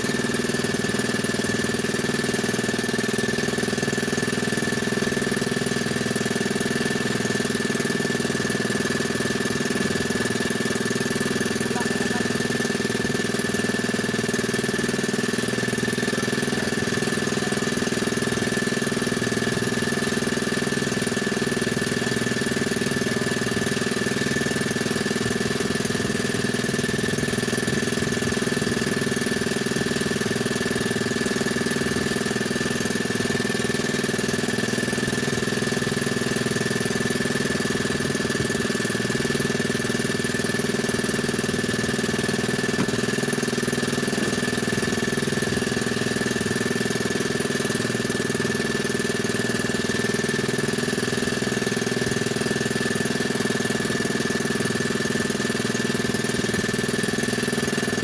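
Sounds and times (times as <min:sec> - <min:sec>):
engine high whine: 0:00.0 - 0:58.0
small boat engine running: 0:00.0 - 0:58.0.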